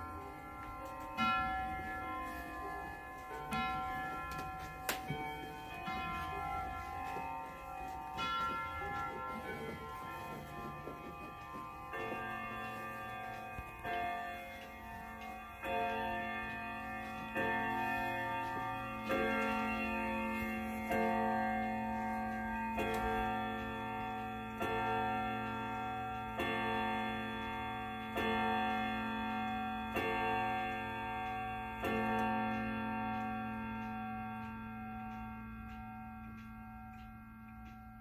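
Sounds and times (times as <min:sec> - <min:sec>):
wall clock striking: 0:00.0 - 0:38.0.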